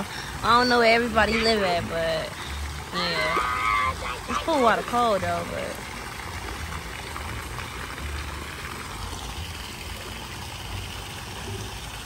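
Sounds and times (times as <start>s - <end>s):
water rushing in pool: 0.0s - 12.0s.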